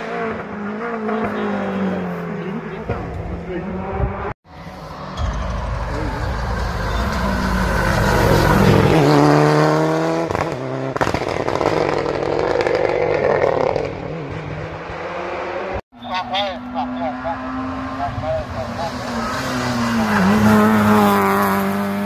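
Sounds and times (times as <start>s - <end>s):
rally car passing at full throttle: 0.0s - 22.0s.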